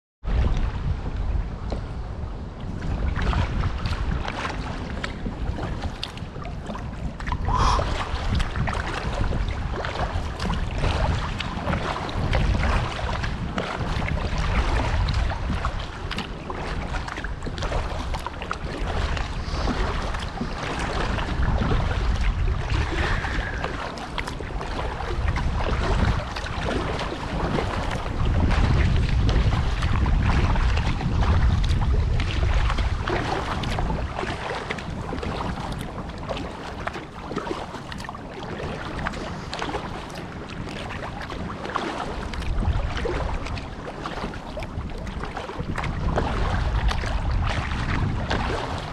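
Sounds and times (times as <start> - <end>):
wind buffeting microphone: 0.2 - 48.9
water splashing and lapping: 0.3 - 48.9.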